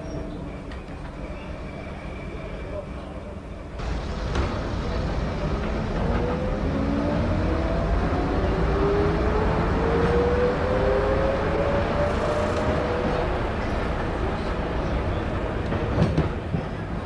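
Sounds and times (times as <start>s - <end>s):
train engine whining: 0.2s - 17.0s.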